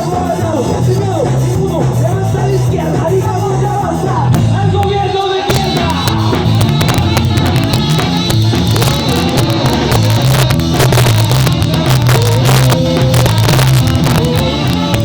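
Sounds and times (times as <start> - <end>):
ska band playing: 0.0 - 15.0.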